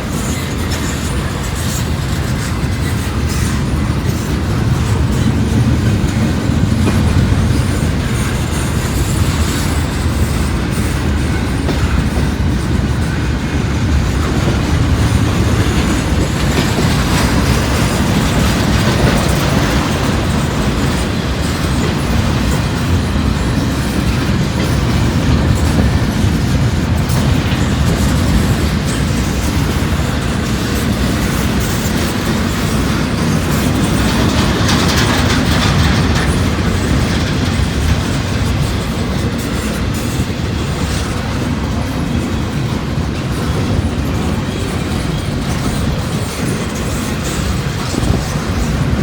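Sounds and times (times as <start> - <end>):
freight train rumbling past: 0.0 - 49.0
wheels clattering on rail joints: 0.0 - 49.0.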